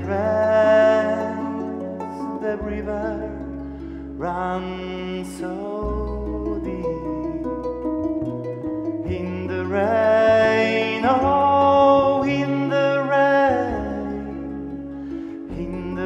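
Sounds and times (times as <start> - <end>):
harp and ensemble playing: 0.0 - 16.0.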